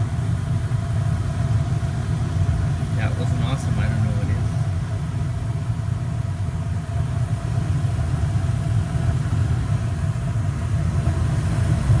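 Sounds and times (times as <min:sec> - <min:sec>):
faint steady hum: 0:00.0 - 0:12.0
furnace burner rumbling: 0:00.0 - 0:12.0.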